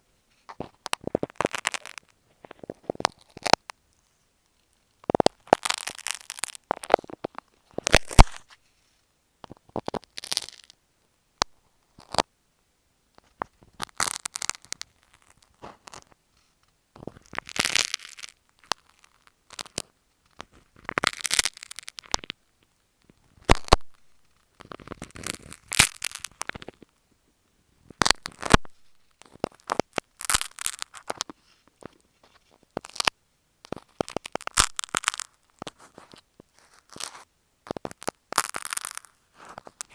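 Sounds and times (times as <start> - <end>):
crackling and scratching on microphone: 0.0 - 10.8, 11.4 - 12.3, 13.1 - 39.9.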